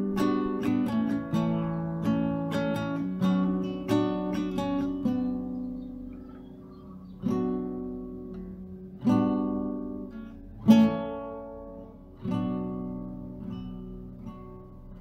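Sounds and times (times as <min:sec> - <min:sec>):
acoustic guitar strummed chords: 0:00.0 - 0:15.0.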